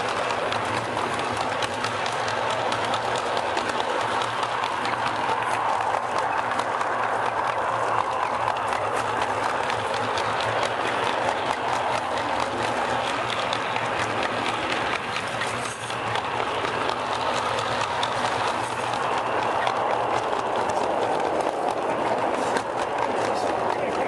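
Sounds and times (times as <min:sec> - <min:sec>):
low steady hum: 0:00.0 - 0:24.0
model train rolling on track: 0:00.0 - 0:24.0
wheels clicking on rails: 0:00.0 - 0:24.0.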